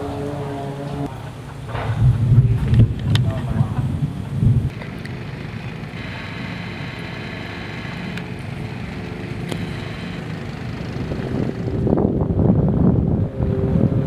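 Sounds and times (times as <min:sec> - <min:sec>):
steady engine drone: 0:00.0 - 0:02.2, 0:04.5 - 0:14.0.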